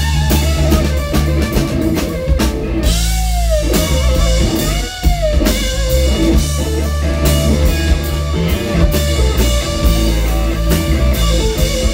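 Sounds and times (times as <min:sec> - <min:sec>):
electric guitar note gliding: 0:00.0 - 0:11.9
rock band playing live: 0:00.0 - 0:11.9.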